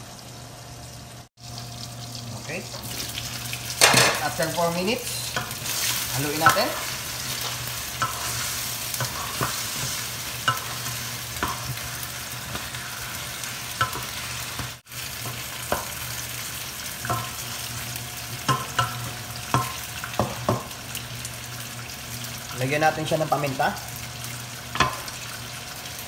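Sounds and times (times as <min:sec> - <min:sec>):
chicken sizzling in a skillet: 0:00.0 - 0:26.0.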